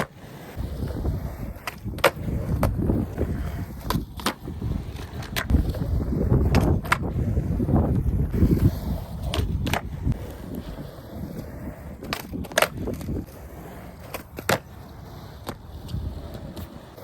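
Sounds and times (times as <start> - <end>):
skateboard clacks: 0.0 - 17.0
skateboard wheels rolling on pavement: 0.0 - 17.0.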